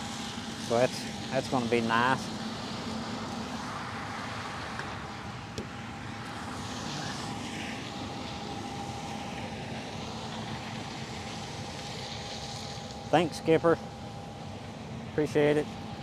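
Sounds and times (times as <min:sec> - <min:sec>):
combine harvester engine droning: 0:00.0 - 0:16.0.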